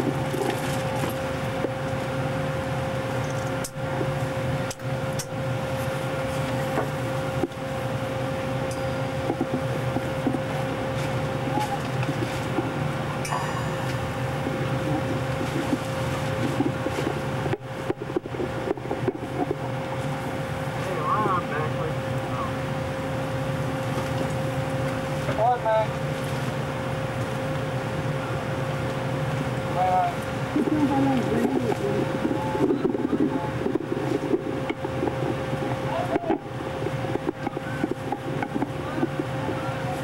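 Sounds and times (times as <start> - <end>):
constant whining tone: 0.0 - 40.0
ventilation hum: 0.0 - 40.0.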